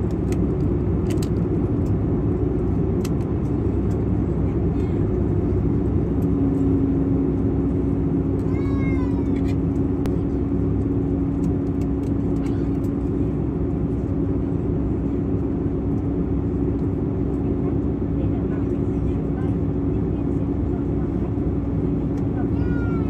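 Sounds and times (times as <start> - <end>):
airliner cabin noise: 0.0 - 23.0.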